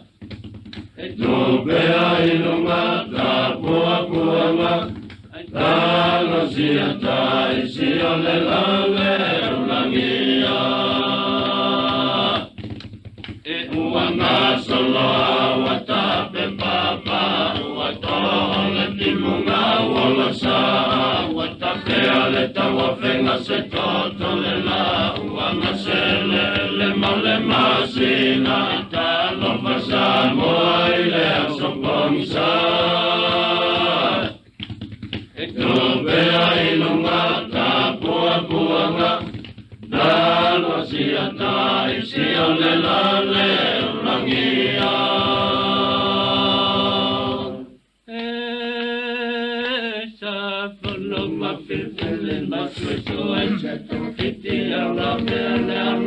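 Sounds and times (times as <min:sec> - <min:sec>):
group of voices singing: 0:01.0 - 0:12.6, 0:13.4 - 0:34.4, 0:35.4 - 0:56.0.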